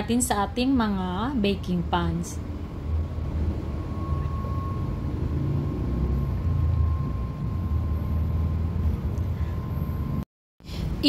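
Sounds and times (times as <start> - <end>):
high whine: 0.0 - 11.0
machine low rumble: 0.0 - 11.0.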